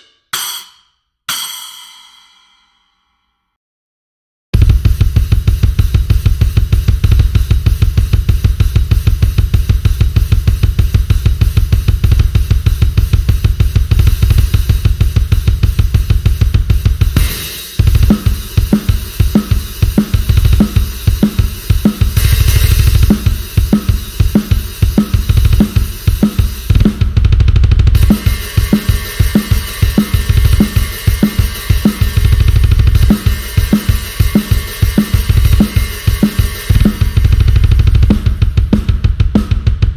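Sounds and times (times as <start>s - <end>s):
drum kit playing loud patterns: 0.0s - 2.8s, 4.6s - 39.9s.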